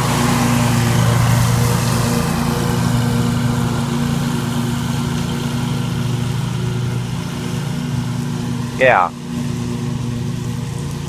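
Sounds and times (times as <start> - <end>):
mower engine humming: 0.0 - 11.0.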